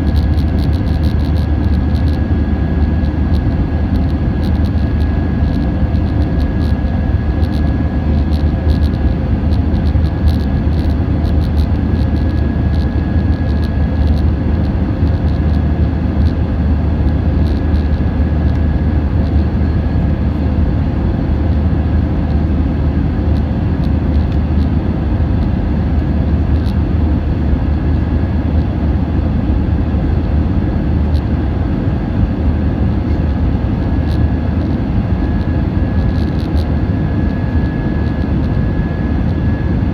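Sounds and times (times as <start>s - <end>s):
high engine whine: 0.0s - 39.9s
jet engines droning: 0.0s - 39.9s.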